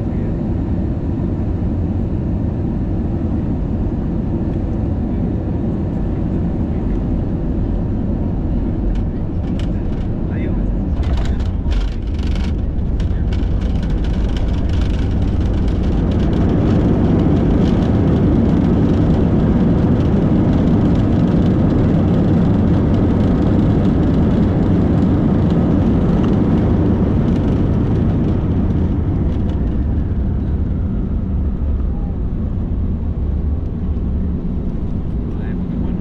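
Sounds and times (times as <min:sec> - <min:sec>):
jet engines and wheels rumbling: 0:00.0 - 0:36.0.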